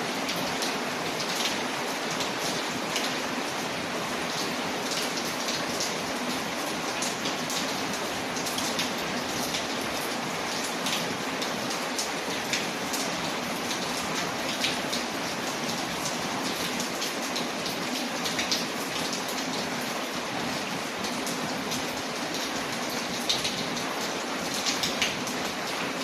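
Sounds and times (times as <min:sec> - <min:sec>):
rain pattering on a window: 0:00.0 - 0:26.0.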